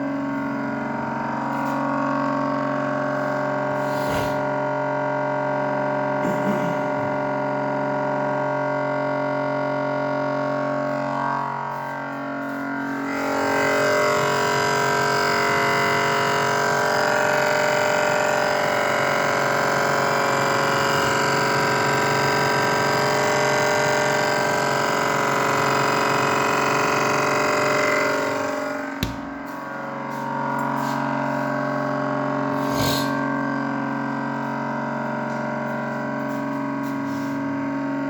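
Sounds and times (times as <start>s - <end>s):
refrigerator compressor humming: 0.0s - 38.0s.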